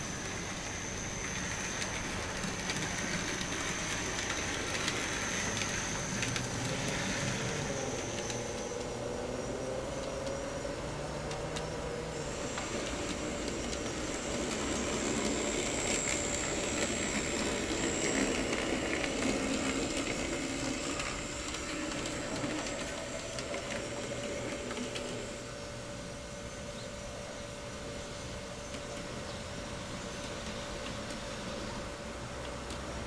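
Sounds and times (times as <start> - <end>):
electric motor whine: 0.0 - 26.6
wheels rumbling on rails: 0.0 - 33.0.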